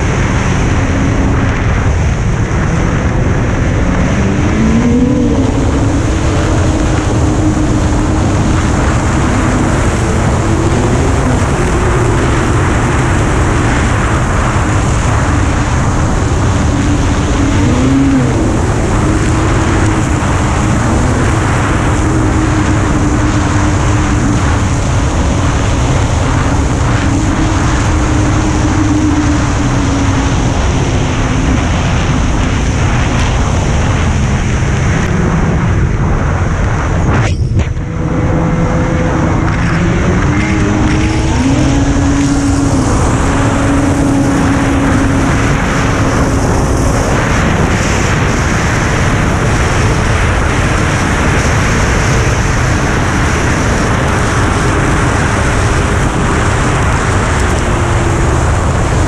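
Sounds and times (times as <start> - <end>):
vehicle engine revving: 0.0 - 59.0
wind noise on microphone: 0.0 - 59.0.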